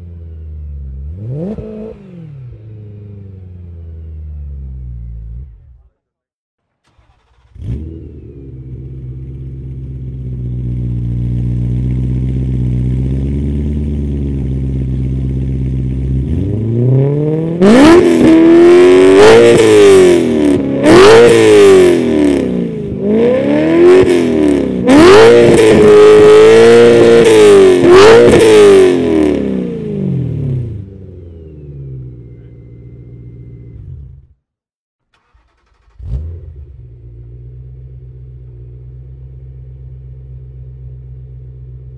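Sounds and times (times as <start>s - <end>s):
car engine idling and revving: 0.0s - 6.0s, 6.7s - 34.4s, 35.1s - 41.9s.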